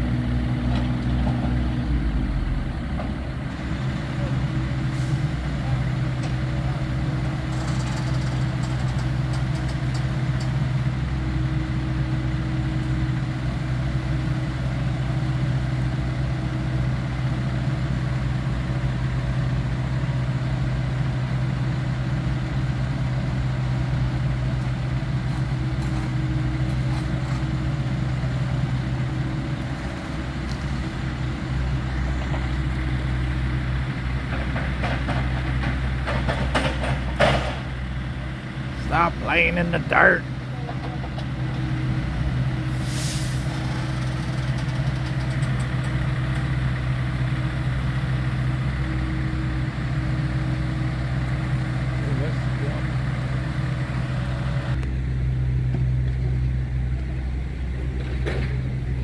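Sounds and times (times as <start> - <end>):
heavy machine engine hum: 0.0 - 59.0.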